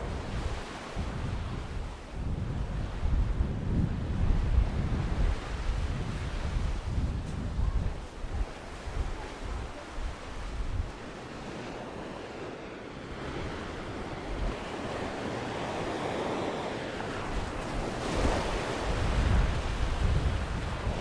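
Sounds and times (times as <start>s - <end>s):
waves breaking on beach: 0.0s - 21.0s
wind buffeting microphone: 0.0s - 21.0s.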